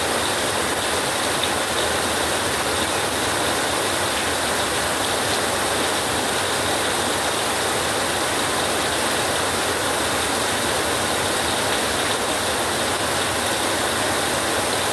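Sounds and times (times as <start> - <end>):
heavy rain on a tin roof: 0.0 - 14.9.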